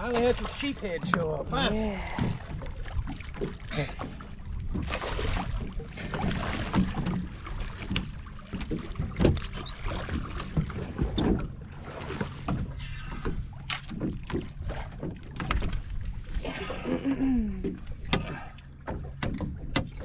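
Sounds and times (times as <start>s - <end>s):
water lapping against hull: 0.0s - 20.0s
water splashing and sloshing: 0.0s - 20.0s.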